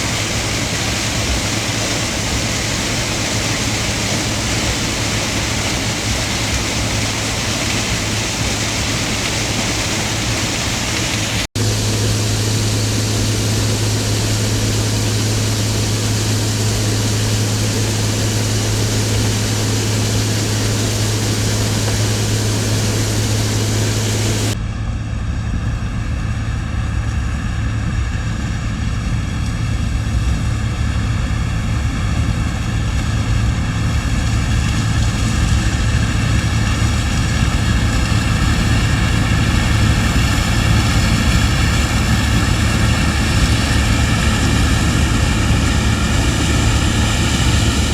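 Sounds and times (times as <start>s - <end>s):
combine harvester running: 0.0s - 47.9s
humming engine note: 0.0s - 47.9s.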